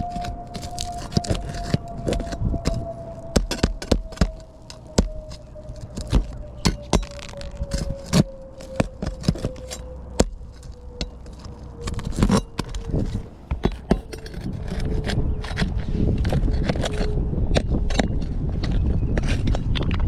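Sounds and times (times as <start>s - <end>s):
steady hum falling in pitch: 0.0s - 17.9s
metal clinks and scrapes: 0.1s - 17.2s.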